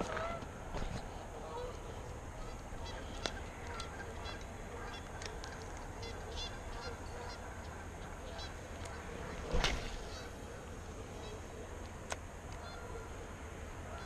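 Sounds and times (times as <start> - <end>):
geese honking: 0.0 - 14.0
steady low rumble: 0.0 - 14.0.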